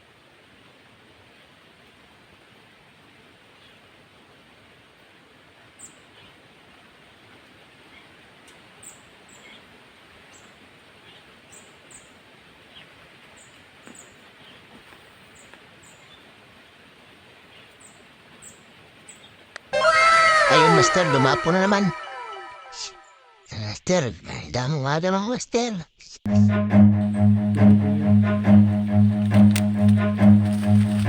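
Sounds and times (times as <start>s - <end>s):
steady outdoor hiss: 0.0s - 21.9s, 27.6s - 31.0s.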